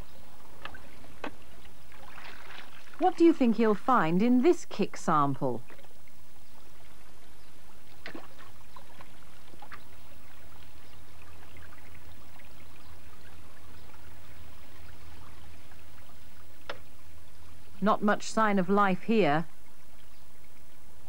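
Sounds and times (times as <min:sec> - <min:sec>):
stream water trickling: 0:00.0 - 0:21.0.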